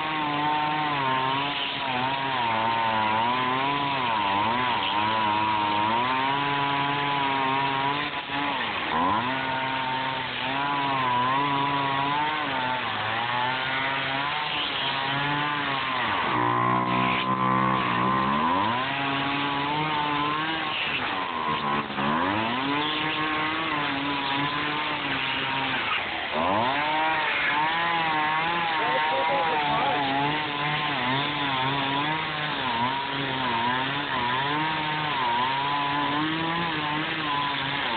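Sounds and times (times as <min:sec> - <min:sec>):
chainsaw cutting foam: 0:00.0 - 0:37.9.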